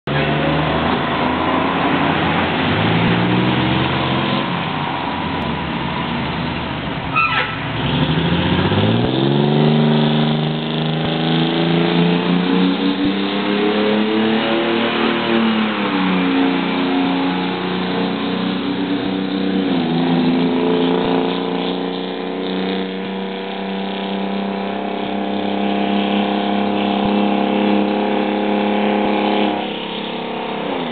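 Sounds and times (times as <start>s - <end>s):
fire truck engines passing: 0.1s - 30.9s.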